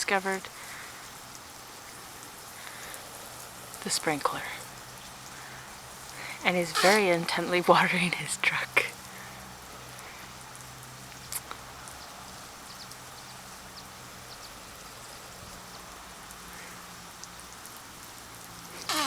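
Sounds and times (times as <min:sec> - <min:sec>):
lawn sprinkler water spray pattering: 0:00.0 - 0:19.0.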